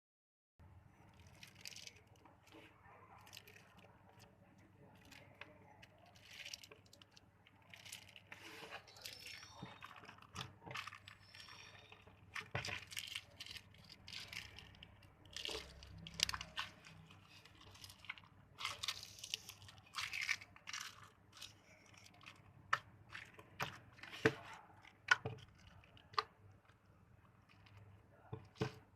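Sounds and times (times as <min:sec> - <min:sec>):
slime squishing: 0:00.8 - 0:28.9
candy wrappers crinkling: 0:01.0 - 0:28.9.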